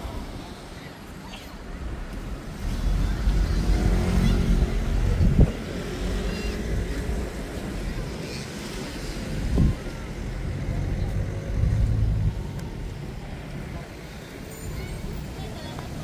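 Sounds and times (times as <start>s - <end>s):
faint voices: 0.0s - 16.0s.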